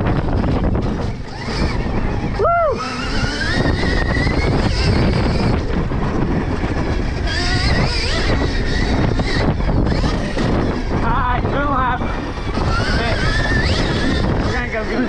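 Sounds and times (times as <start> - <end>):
electric motorbike motor whining: 0.0 - 15.0
wind rumble on microphone: 0.0 - 15.0.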